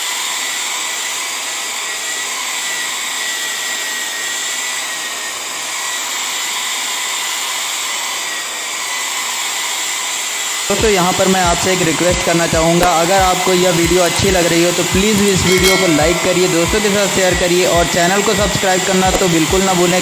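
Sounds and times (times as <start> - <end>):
hair dryer blowing air: 0.0 - 20.0.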